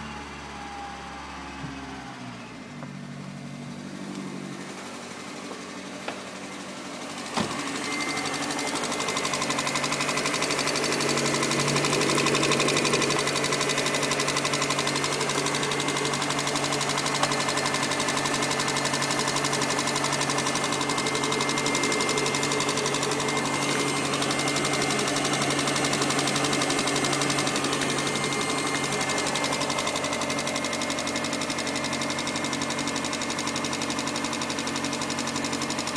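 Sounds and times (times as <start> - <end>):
car engine idling: 0.1 - 35.9
fast even engine ticking: 6.7 - 35.9.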